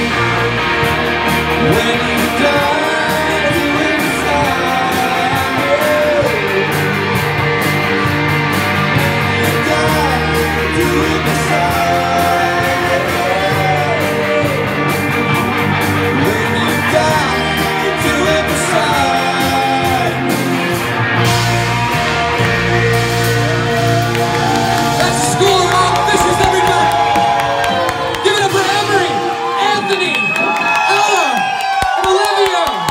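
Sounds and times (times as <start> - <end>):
guitar lead with bending notes: 0.0 - 29.6
live rock band playing: 0.0 - 31.5.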